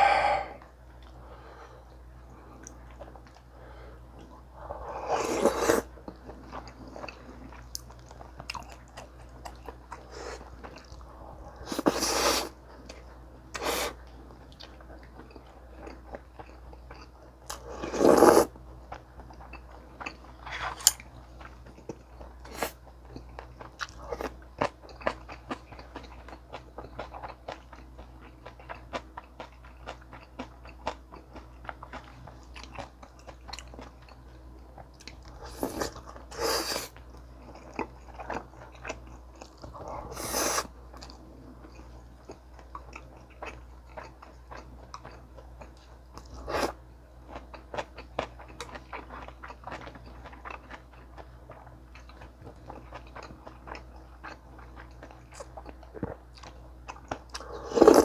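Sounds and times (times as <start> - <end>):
chewing with crisp crunches: 4.1 - 58.0.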